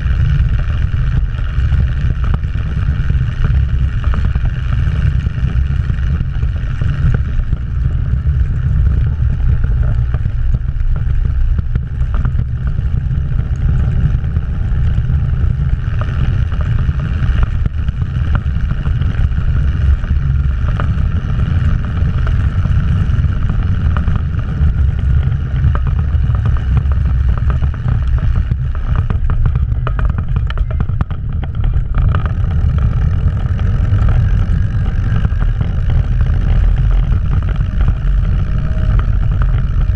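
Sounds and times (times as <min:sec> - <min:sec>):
snowcat engine droning: 0:00.0 - 0:39.9.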